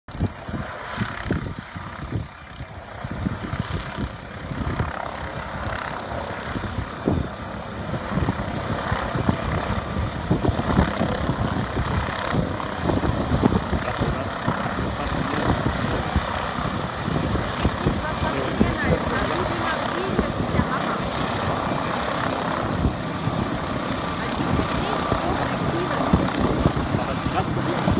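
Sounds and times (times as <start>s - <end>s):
helicopter rotor and engine: 0.1s - 27.9s.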